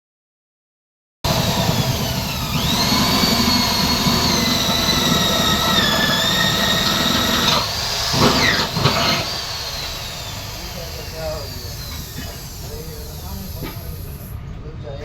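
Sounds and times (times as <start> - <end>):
power tool motor whine: 1.3 - 14.3.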